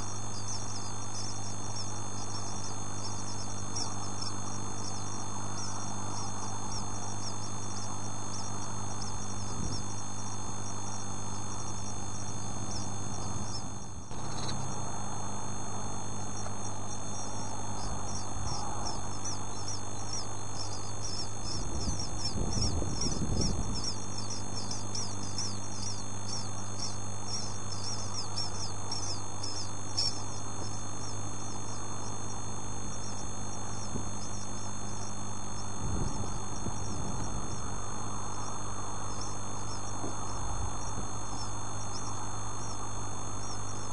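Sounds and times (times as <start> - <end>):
bird chicks cheeping: 0.0 - 43.9
low electrical hum: 0.0 - 43.9.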